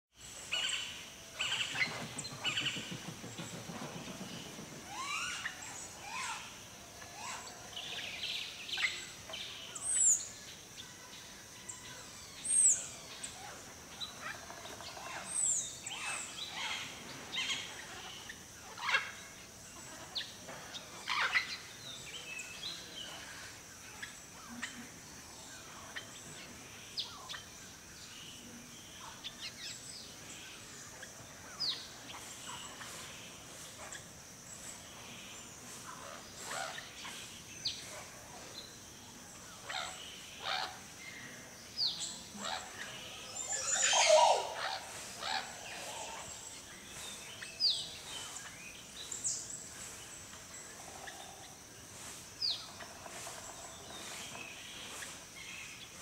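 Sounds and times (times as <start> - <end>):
steady high hiss: 0.1 - 56.0.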